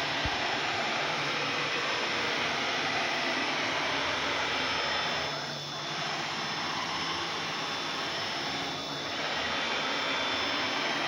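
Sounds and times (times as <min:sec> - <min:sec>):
cnc router spindle running: 0:00.0 - 0:11.0.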